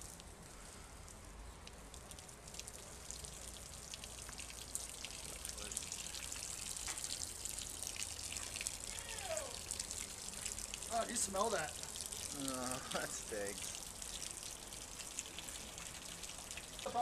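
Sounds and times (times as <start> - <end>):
fluid dripping onto bedding: 0.0 - 17.0.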